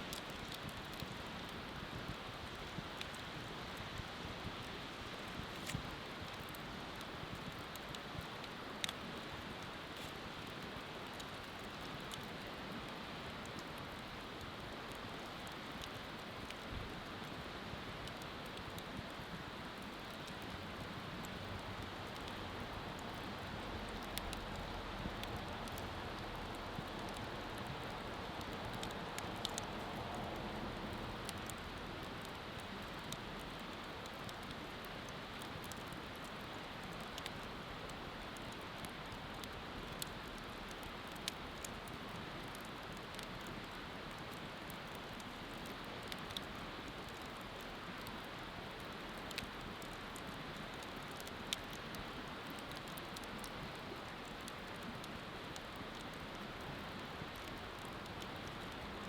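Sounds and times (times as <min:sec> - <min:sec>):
bonfire hissing and crackling: 0:00.0 - 0:59.0.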